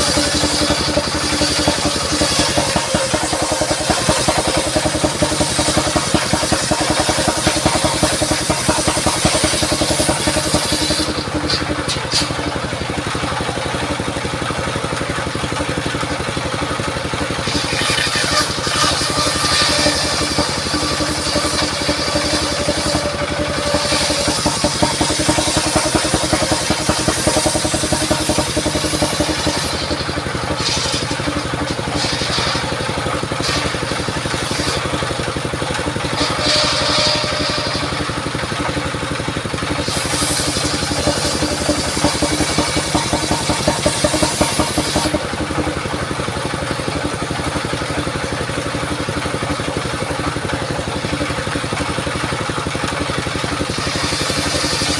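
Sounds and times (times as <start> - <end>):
saw blade hissing through log: 0.0 - 14.4, 16.4 - 54.9
sawmill engine running: 0.0 - 54.9.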